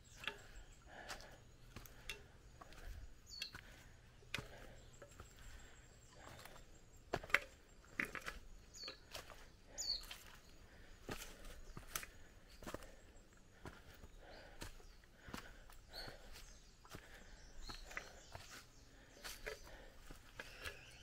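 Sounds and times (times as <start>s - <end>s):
chirps and clicks: 0.0s - 21.0s.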